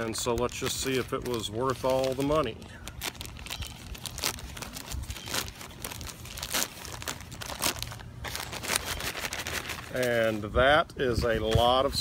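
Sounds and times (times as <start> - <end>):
plastic crinkling: 0.0 - 10.5
plastic mailer bag tearing: 0.0 - 10.5.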